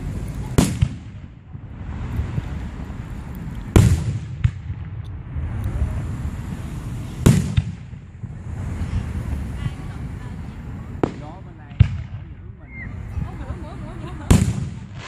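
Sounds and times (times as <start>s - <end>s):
fireworks bursting with booms: 0.0s - 3.0s, 3.7s - 13.4s, 14.0s - 15.0s
low rumble: 0.0s - 15.0s.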